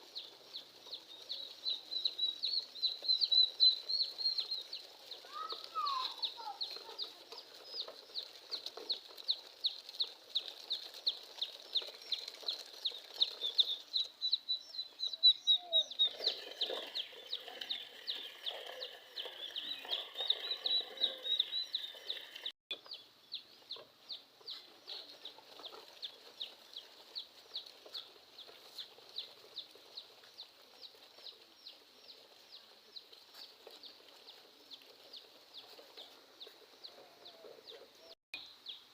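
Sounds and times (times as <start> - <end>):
chicks peeping: 0.0 - 38.2.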